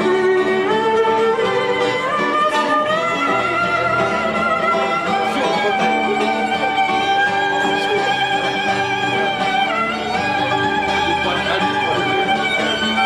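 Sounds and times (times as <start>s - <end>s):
guitar accompaniment: 0.0s - 13.0s
violin playing held notes: 0.0s - 13.0s.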